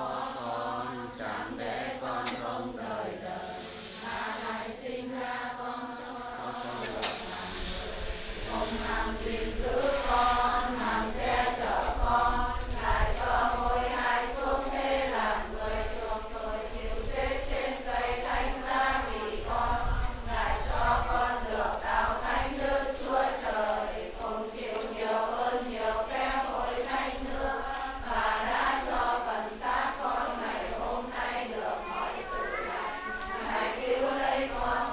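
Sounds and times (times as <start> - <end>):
congregation chanting a hymn: 0.0 - 34.9.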